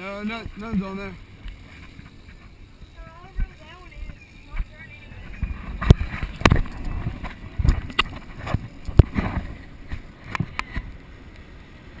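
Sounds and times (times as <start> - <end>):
low rumble: 0.2 - 11.3.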